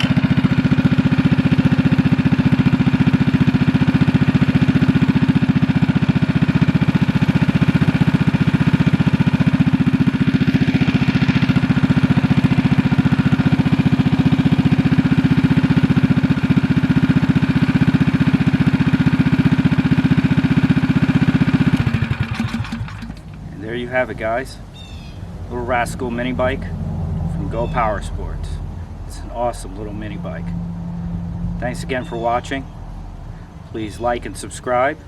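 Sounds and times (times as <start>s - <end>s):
small engine idling: 0.0s - 35.0s.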